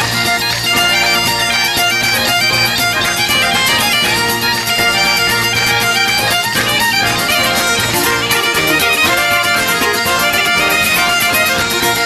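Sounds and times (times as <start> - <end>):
lively traditional music: 0.0 - 12.0.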